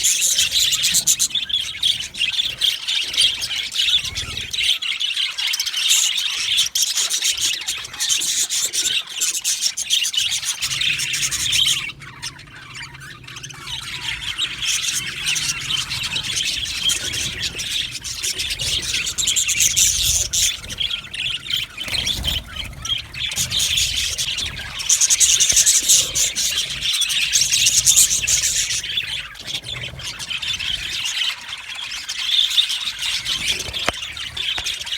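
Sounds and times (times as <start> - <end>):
budgies chattering and chirping: 0.0 - 34.9.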